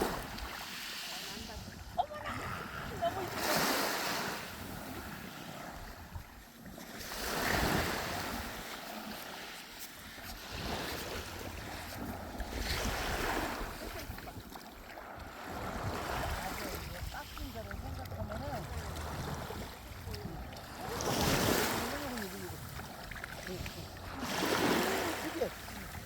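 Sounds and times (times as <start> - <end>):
sea waves washing onto beach: 0.0 - 26.0.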